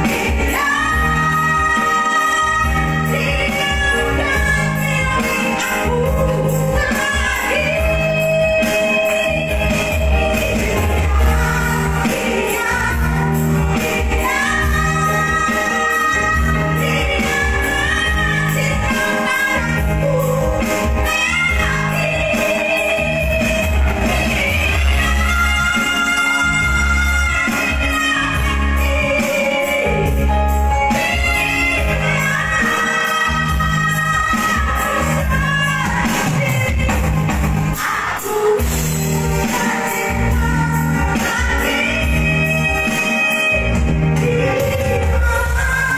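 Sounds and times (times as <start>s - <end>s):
instrumental accompaniment with bass beat: 0.0s - 45.9s
woman singing: 0.0s - 45.9s.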